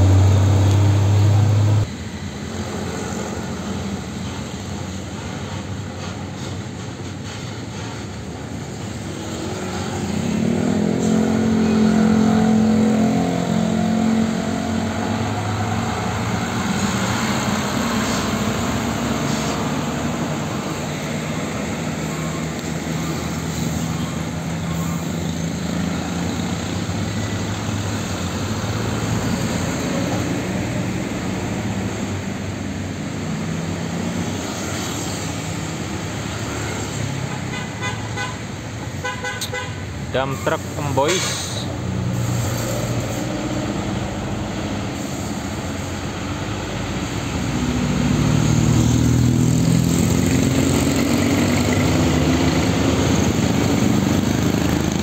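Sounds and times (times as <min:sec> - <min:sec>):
diesel trucks driving past: 0:00.0 - 0:55.0.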